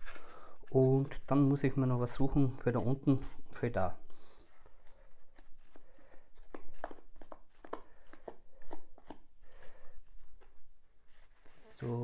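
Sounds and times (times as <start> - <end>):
hands rubbing foam scuffs and clicks: 0.0 - 12.0.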